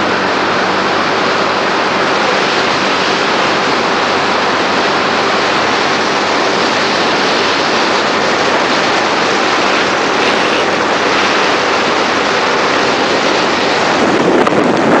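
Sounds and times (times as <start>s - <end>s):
wind and road noise: 0.0s - 15.0s
wind buffeting microphone: 0.0s - 15.0s.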